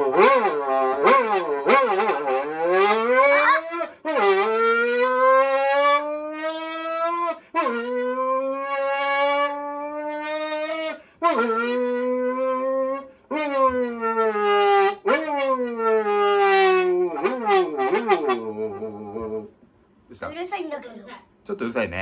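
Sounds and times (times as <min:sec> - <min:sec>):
man blowing into can imitating motorcycle: 0:00.0 - 0:19.6.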